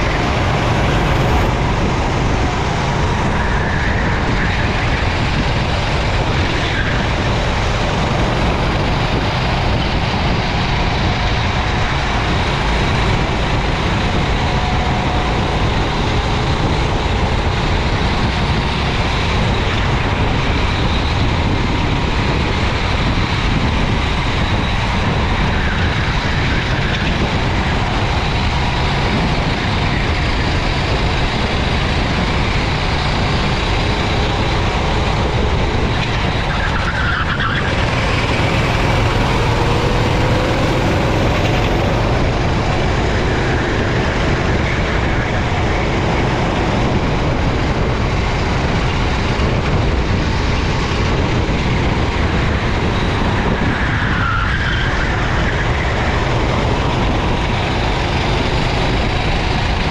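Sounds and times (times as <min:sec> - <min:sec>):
kart engine running: 0:00.0 - 0:53.6, 0:55.1 - 0:59.9.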